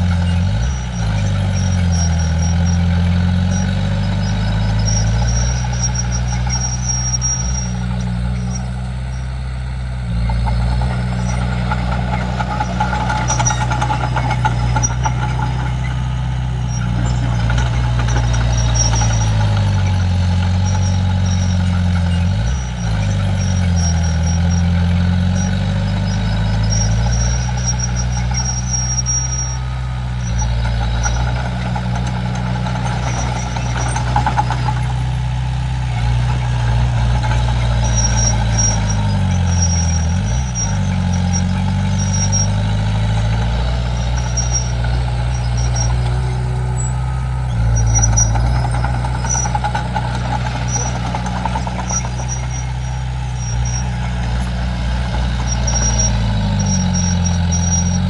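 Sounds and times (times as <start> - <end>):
bulldozer diesel engine running: 0.0 - 58.0
short high squeaks: 0.0 - 58.0.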